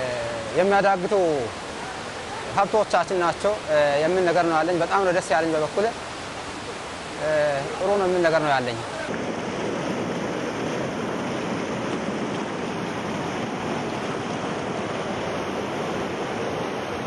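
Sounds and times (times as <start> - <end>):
river rapids rushing over rocks: 0.0 - 17.0.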